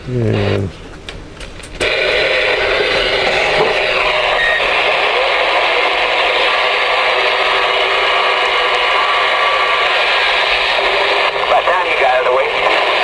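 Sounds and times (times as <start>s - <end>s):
radio static hiss: 0.0s - 0.9s, 1.7s - 13.0s.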